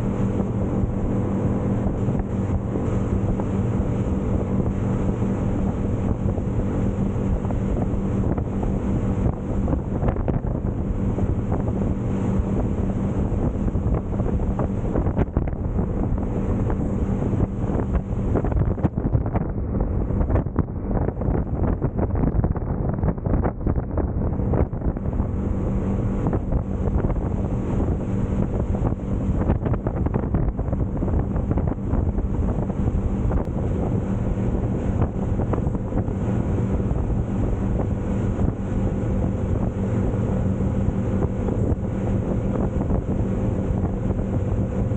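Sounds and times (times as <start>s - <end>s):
boat engine drone: 0.0s - 44.9s
water rushing past hull: 0.0s - 44.9s
wind buffeting microphone: 0.0s - 44.9s.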